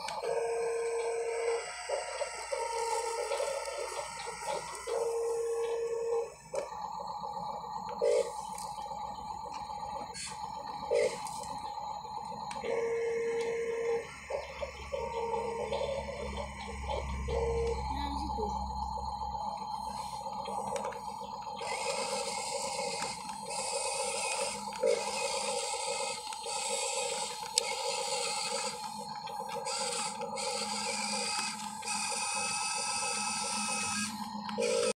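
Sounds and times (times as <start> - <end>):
toy motors and gears whirring: 0.0 - 35.0.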